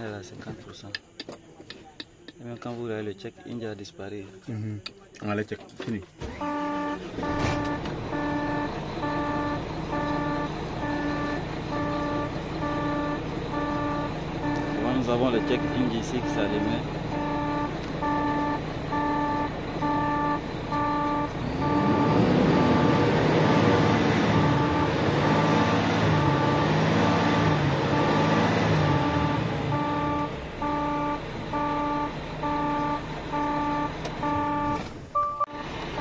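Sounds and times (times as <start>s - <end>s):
diesel truck engine revving: 6.3s - 36.0s
warning chime beeping: 6.4s - 36.0s.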